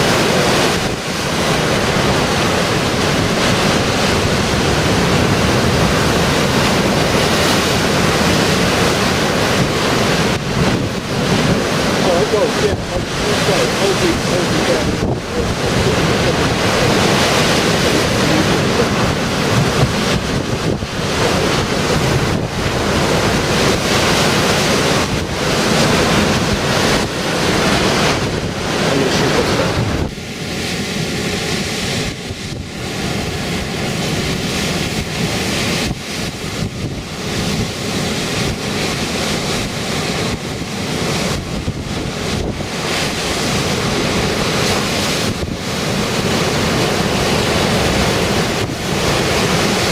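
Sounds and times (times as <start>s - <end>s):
waves breaking on shore: 0.0s - 49.9s
wind buffeting microphone: 0.0s - 49.9s.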